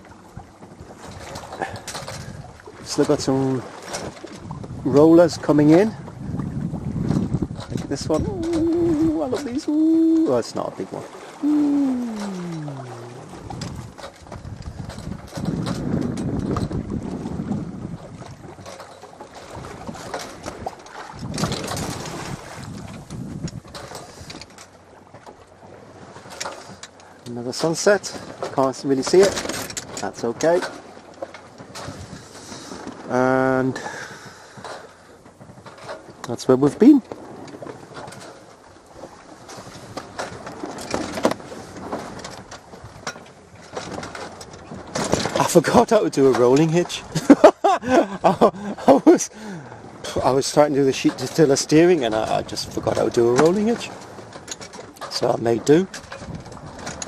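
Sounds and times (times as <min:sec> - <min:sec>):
water splashing along boat hull: 0:00.0 - 0:57.0
wind buffeting microphone: 0:00.0 - 0:57.0.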